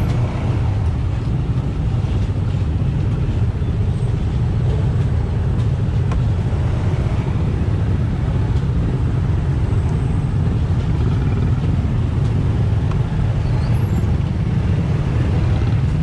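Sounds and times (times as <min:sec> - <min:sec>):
motorbike engines rumbling in traffic: 0:00.0 - 0:16.0.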